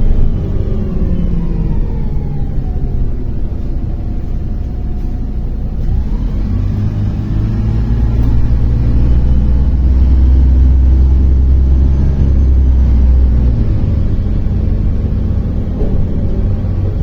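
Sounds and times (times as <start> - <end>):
bus engine drone inside cabin: 0.0 - 17.0.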